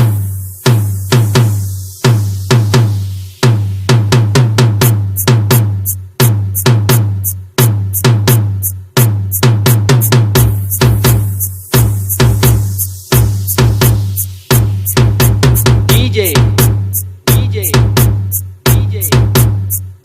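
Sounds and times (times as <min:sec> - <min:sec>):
booming bass drum hits: 0:00.0 - 0:19.7
trance track: 0:00.0 - 0:20.0.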